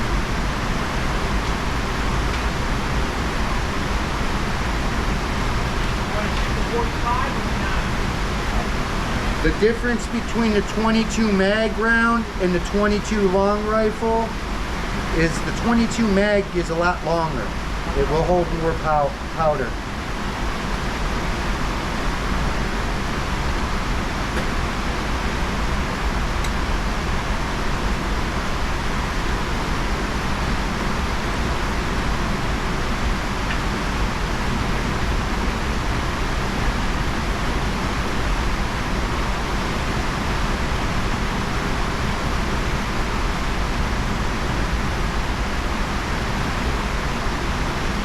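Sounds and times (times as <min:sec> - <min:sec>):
background rushing hiss: 0:00.0 - 0:48.0.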